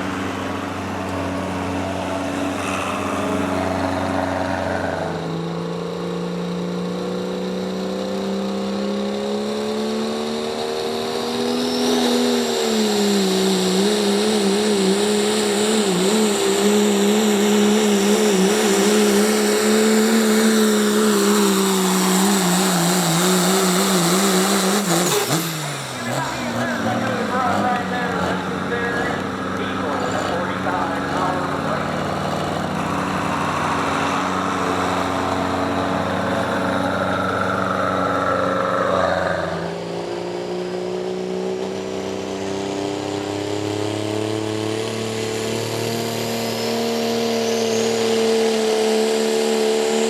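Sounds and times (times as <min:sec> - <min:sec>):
pulling engine running hard: 0:00.0 - 0:50.0.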